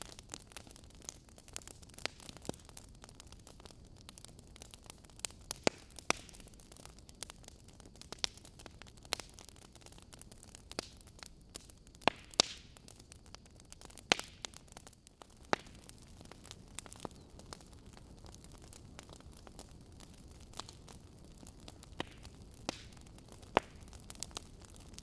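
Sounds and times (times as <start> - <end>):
sharp pops from burning logs: 0.0 - 25.0
soft fire hiss: 0.0 - 25.0
wood fire crackling: 0.0 - 25.0.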